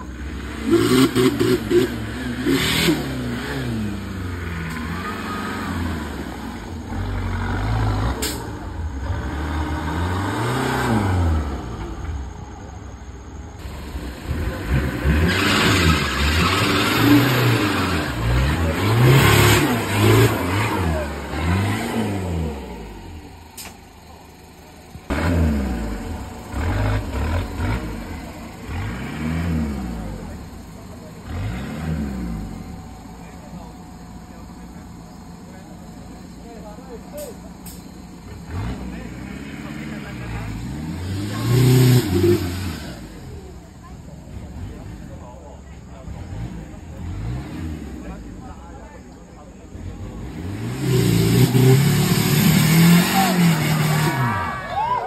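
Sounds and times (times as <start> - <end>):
off-road engine revving: 0.0 - 55.0.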